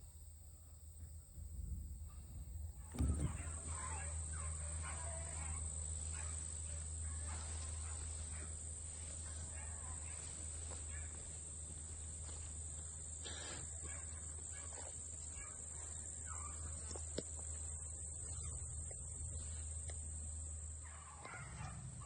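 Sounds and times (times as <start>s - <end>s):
high insect-like drone: 2.0s - 22.0s
dogs baying: 2.9s - 22.0s.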